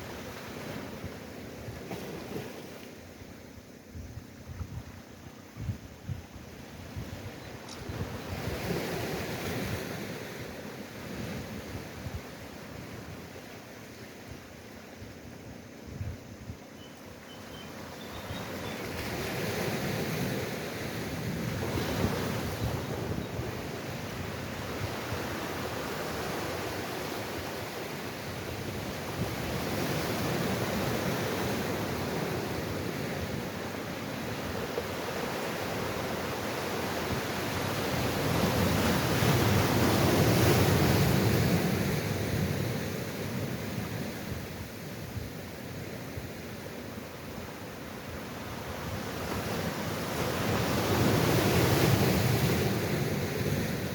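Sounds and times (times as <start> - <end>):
sea waves washing ashore: 0.0 - 53.9.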